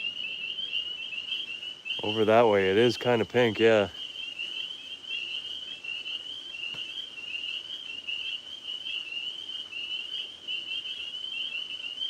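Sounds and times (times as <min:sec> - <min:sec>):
tree frogs trilling: 0:00.0 - 0:12.0.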